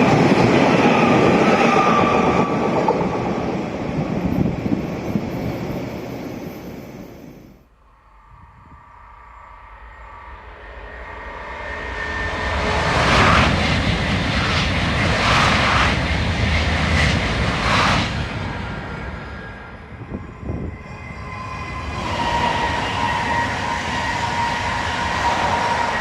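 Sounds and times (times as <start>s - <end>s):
high-speed train rushing past: 0.0s - 26.0s.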